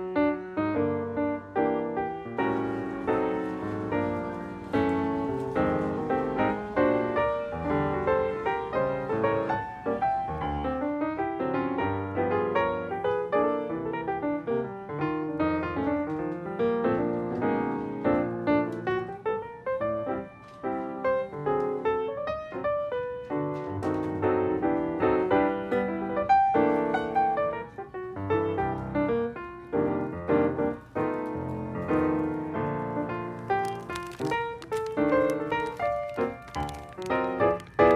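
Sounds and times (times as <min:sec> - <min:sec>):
background piano music: 0:00.0 - 0:37.9.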